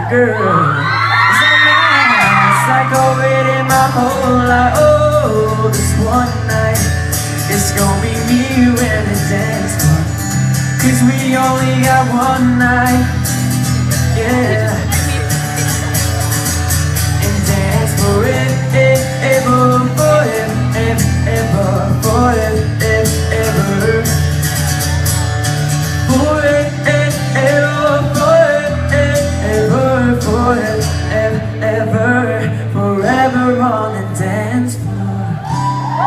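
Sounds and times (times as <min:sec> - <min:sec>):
pop song over loudspeakers: 0:00.0 - 0:36.0.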